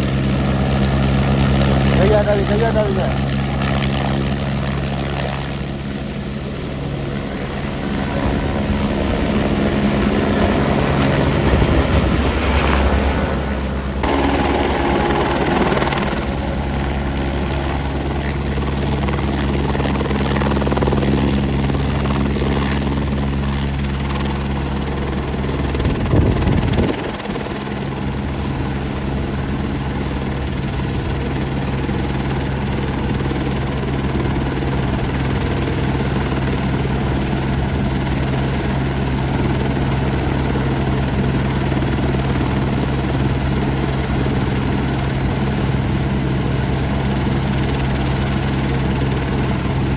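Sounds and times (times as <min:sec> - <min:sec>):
helicopter engine and rotor hum: 0:00.0 - 0:49.9.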